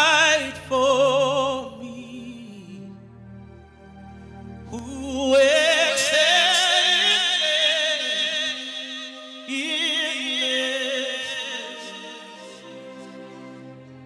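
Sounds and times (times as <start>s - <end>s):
person singing with vibrato: 0.0s - 3.1s, 4.7s - 13.6s.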